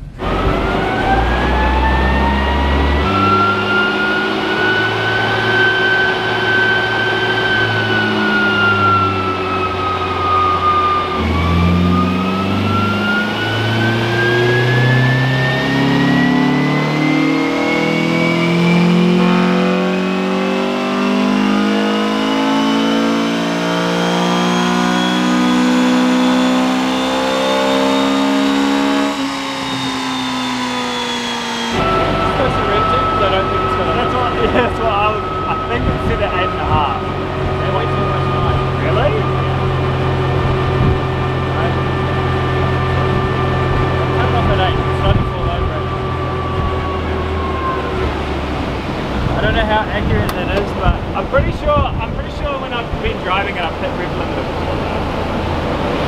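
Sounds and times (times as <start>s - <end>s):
car engine revving under load: 0.0s - 56.0s
engine whine: 0.0s - 56.0s.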